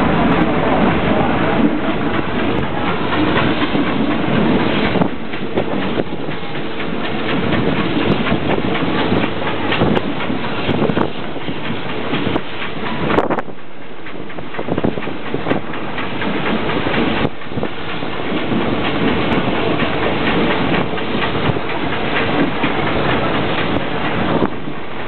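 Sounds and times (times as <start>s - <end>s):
train wheels clattering on track: 0.0s - 25.0s.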